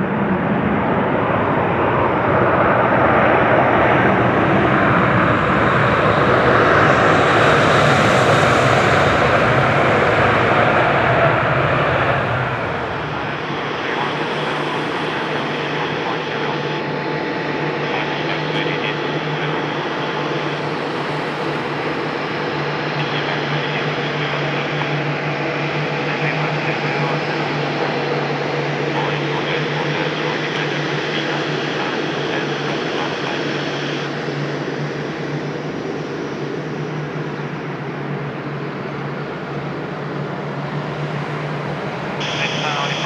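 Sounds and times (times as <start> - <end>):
jet engines rushing hum: 0.0 - 43.0.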